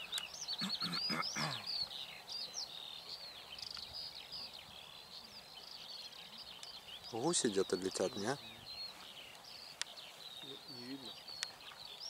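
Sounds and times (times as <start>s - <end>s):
songbirds twittering: 0.0s - 12.0s.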